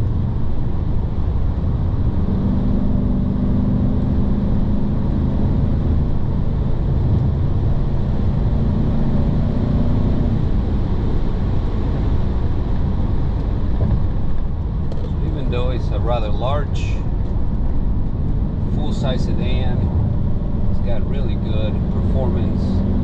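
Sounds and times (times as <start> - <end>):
car engine low drone: 0.0 - 23.0
road noise: 0.0 - 23.0.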